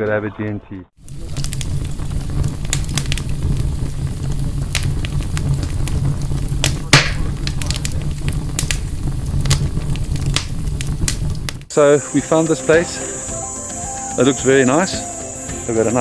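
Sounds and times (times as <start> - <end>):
campfire crackling and popping: 1.0 - 16.0.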